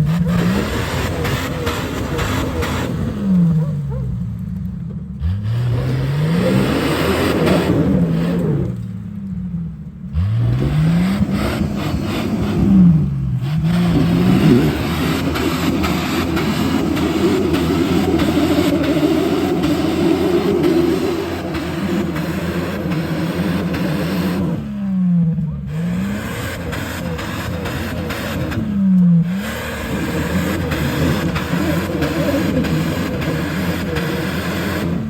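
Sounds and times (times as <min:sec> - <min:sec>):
car engine revving to rev limiter: 0:00.0 - 0:35.0.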